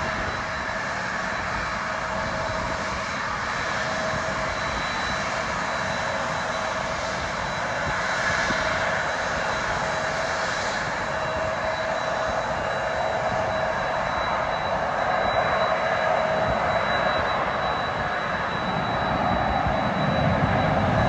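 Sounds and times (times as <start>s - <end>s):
airliner engines running: 0.0s - 21.0s
high engine whine: 0.0s - 21.0s.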